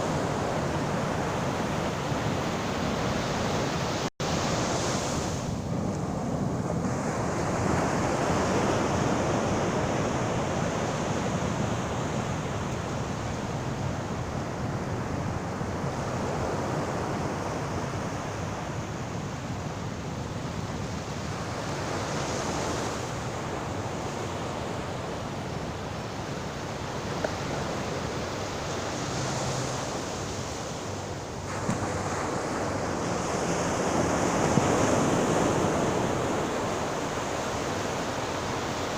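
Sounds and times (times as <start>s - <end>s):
sea surf washing on shore: 0.0s - 38.9s.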